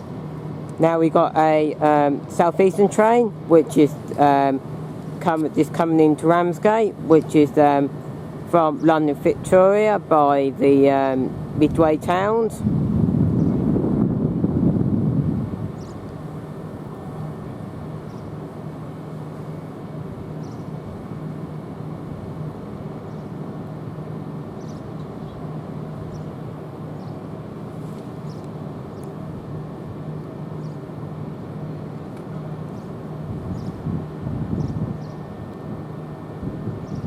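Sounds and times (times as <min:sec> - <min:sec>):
electric train hum: 0:00.0 - 0:37.0.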